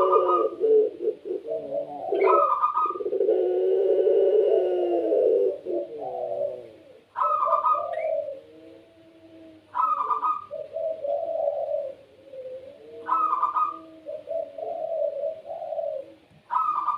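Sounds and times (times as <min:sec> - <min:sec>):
doves cooing: 0:00.0 - 0:16.9.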